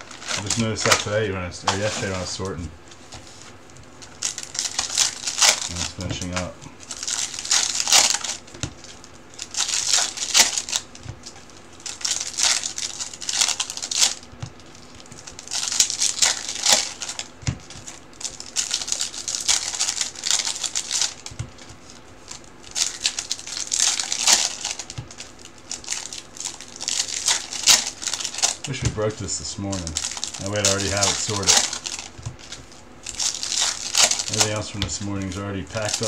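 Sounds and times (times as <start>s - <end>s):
foil wrappers crinkling: 0.0s - 36.0s.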